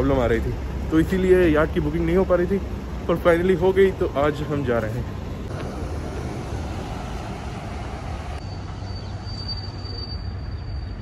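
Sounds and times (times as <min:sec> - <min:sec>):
rumble of street traffic: 0:00.0 - 0:11.0.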